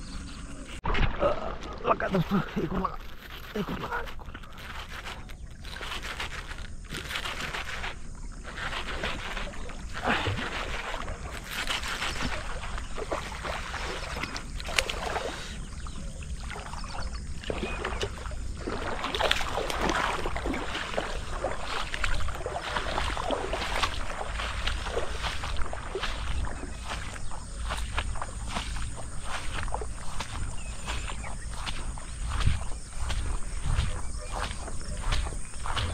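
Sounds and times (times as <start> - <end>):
footsteps sloshing through water: 0.0 - 35.9
swishing through wet grass: 3.0 - 35.9.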